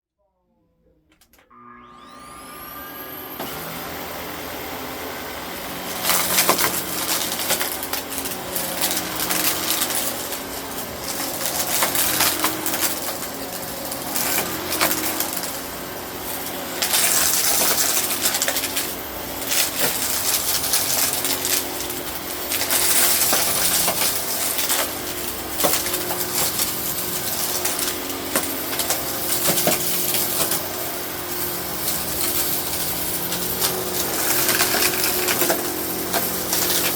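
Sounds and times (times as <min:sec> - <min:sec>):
vacuum cleaner motor whining: 0:01.1 - 0:36.9.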